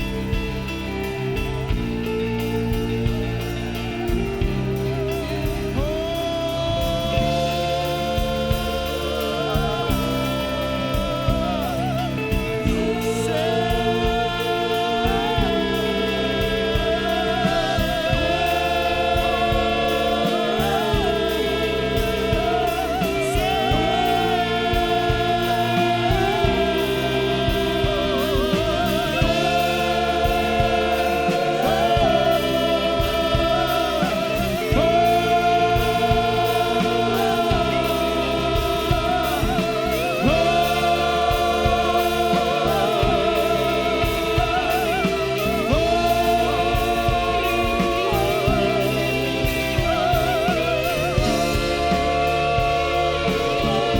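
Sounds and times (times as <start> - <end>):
band playing steady beat: 0.0 - 53.9
person singing with vibrato: 0.0 - 53.9.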